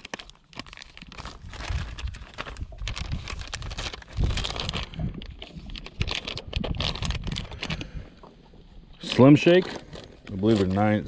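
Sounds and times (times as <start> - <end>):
plastic bag crinkling: 0.0 - 8.1, 9.0 - 11.0.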